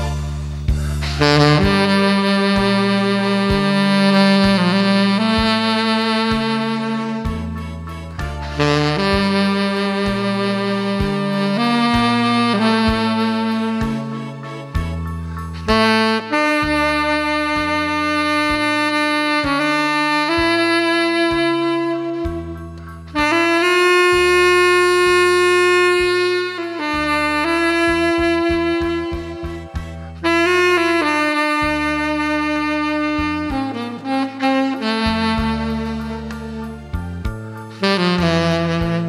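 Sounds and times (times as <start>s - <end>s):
backing track with bass line: 0.0s - 39.0s
tenor saxophone slow melody: 0.0s - 39.0s.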